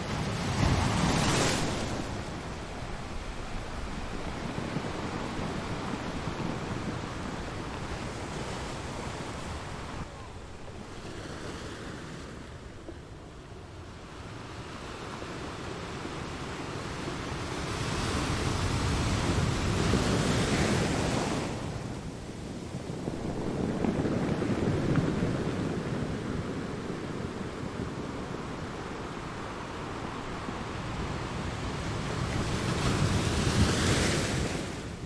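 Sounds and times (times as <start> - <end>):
ocean surf breaking: 0.0 - 13.3, 14.1 - 35.0
wind on microphone: 0.0 - 35.0.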